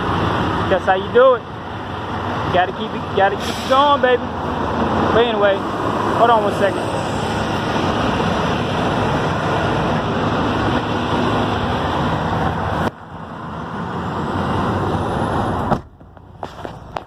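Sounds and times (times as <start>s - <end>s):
diesel truck idling: 0.0s - 17.0s.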